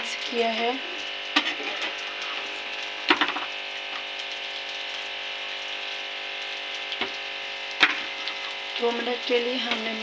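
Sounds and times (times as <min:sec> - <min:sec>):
potato slices sizzling in oil: 0:00.0 - 0:10.0.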